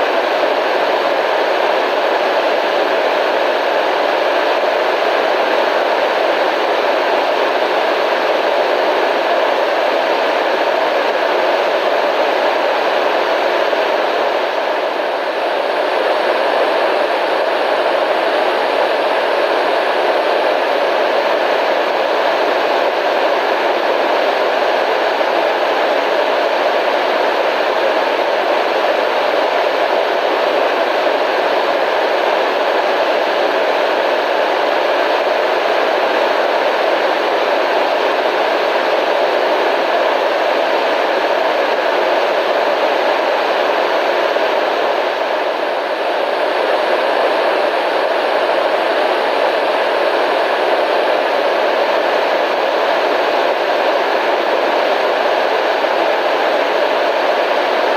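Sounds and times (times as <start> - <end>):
radio static hiss: 0.0 - 57.9.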